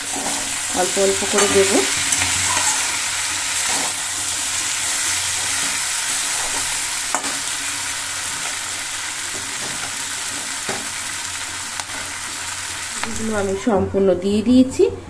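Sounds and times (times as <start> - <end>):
vegetables sizzling in a wok: 0.0 - 13.8.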